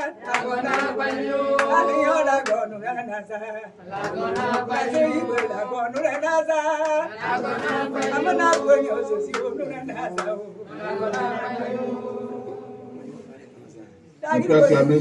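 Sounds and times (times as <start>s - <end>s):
voices singing along: 0.0s - 15.0s.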